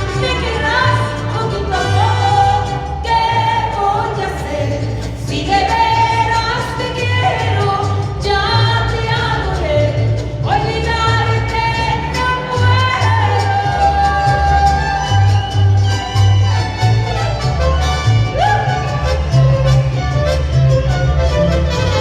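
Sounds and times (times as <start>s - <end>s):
mariachi band playing: 0.0s - 22.0s.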